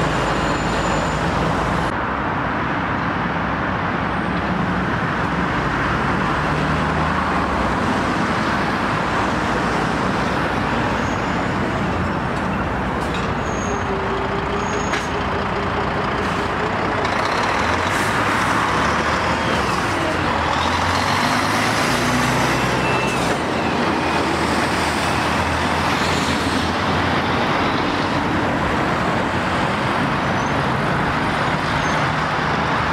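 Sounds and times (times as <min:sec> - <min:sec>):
road traffic: 0:00.0 - 0:32.9
truck diesel engine passing: 0:04.5 - 0:32.9.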